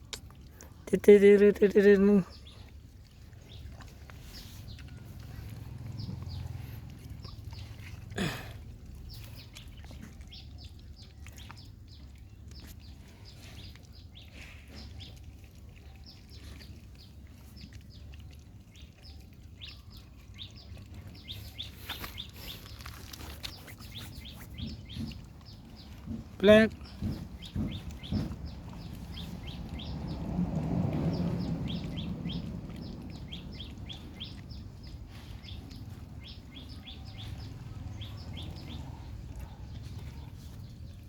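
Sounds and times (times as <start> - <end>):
birds chirping: 0.0 - 41.0
low outdoor rumble: 0.0 - 41.0.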